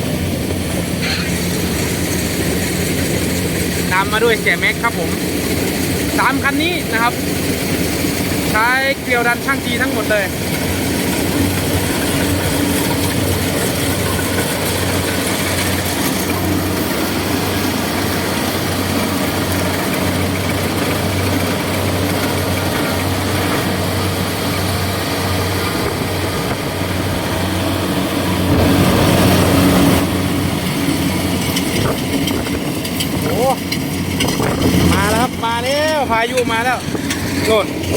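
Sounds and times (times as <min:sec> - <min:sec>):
diesel engines humming: 0:00.0 - 0:37.9.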